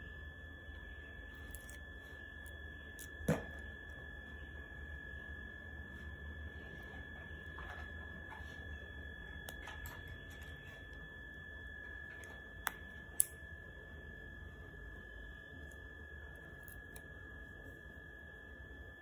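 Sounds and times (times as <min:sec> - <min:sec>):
high-pitched electrical whine: 0:00.0 - 0:19.0
low hum: 0:00.0 - 0:19.0.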